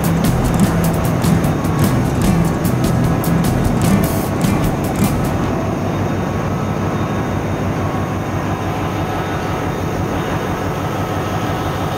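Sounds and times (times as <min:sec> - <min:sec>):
ship engine room drone: 0:00.0 - 0:11.9.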